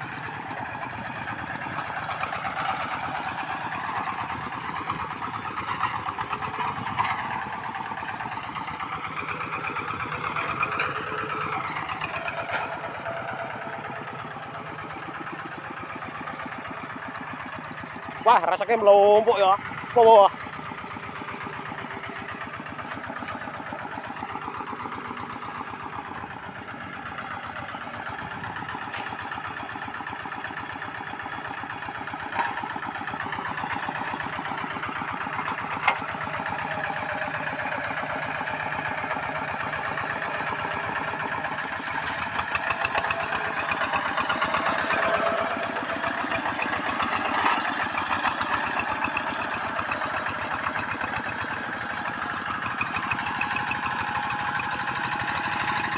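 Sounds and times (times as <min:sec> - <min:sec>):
hand tractor engine running: 0:00.0 - 0:55.9.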